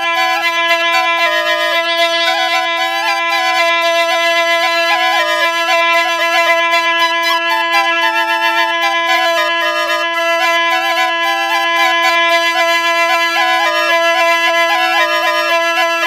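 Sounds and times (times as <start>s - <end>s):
double flute drone and melody: 0.0s - 16.0s.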